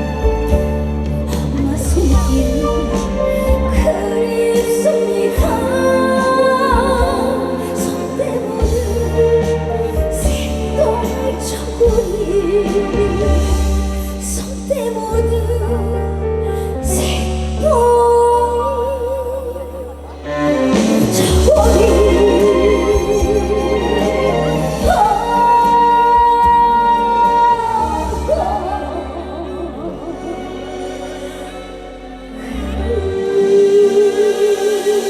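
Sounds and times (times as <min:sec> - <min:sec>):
band accompaniment: 0:00.0 - 0:18.8, 0:20.0 - 0:35.0
woman singing: 0:01.2 - 0:35.0.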